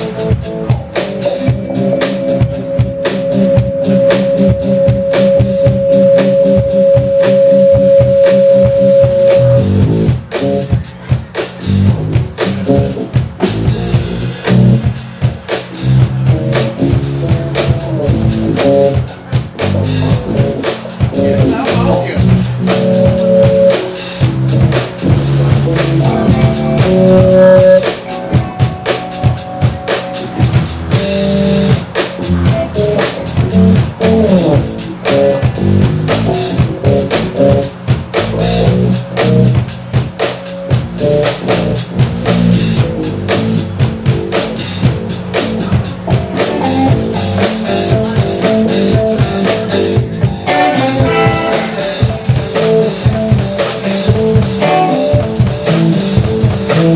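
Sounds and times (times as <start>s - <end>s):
electric guitar lines: 0.0s - 10.8s, 16.0s - 39.6s, 40.6s - 56.9s
drum kit steady beat: 0.0s - 56.9s
electric bass: 0.0s - 56.9s.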